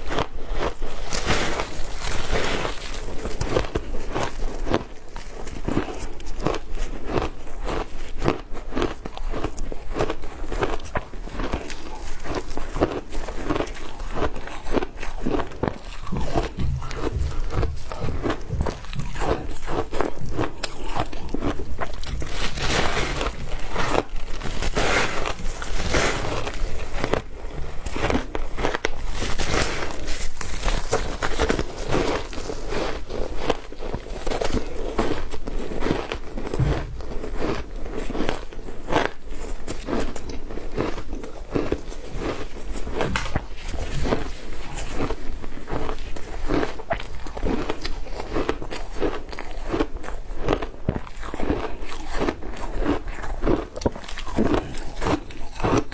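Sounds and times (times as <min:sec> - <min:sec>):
person crunching ice: 0:00.0 - 0:55.9.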